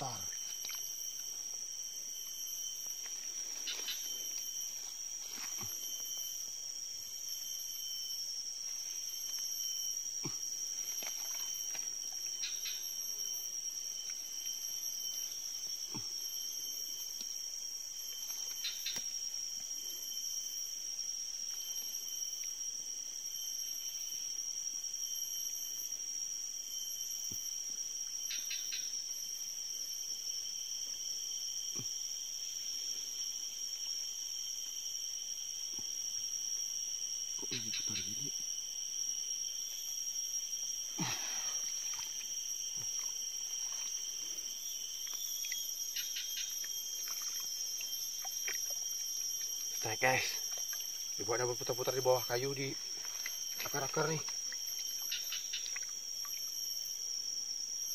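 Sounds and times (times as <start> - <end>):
insects chorus: 0.0 - 57.9.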